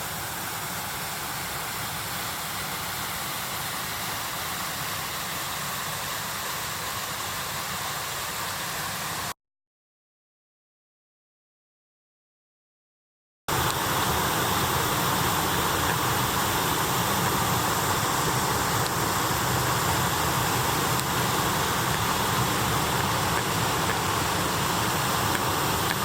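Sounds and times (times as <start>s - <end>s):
waterfall rushing: 0.0s - 9.3s, 13.5s - 26.0s.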